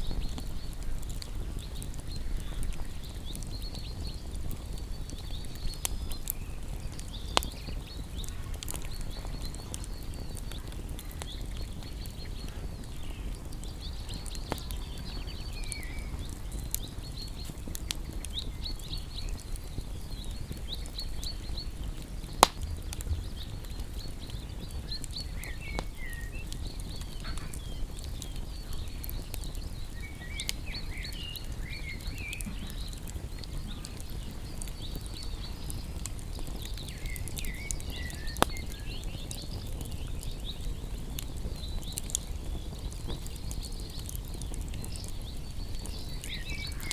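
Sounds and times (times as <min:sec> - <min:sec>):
small birds chirping: 0:00.0 - 0:46.9
wood fire crackling and popping: 0:00.0 - 0:46.9.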